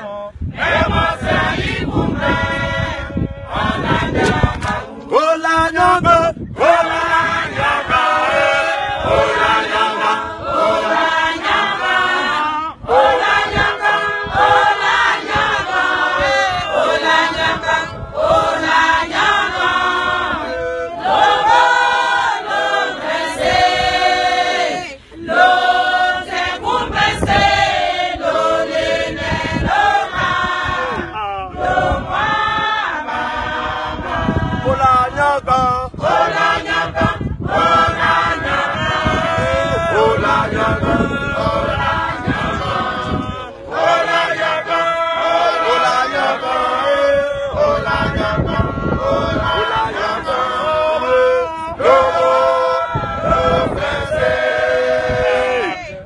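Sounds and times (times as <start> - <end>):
choir singing: 0.6 - 5.2, 6.6 - 55.9.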